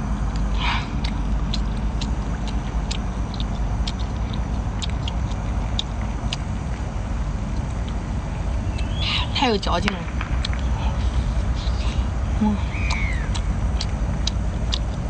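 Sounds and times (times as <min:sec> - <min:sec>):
person chewing: 0:00.0 - 0:09.0, 0:10.4 - 0:15.0
low rumble: 0:00.0 - 0:15.0.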